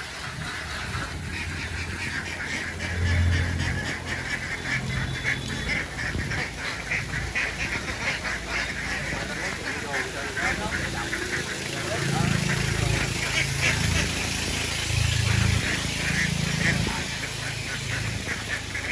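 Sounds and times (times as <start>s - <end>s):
flock of ducks quacking: 0.0s - 18.9s.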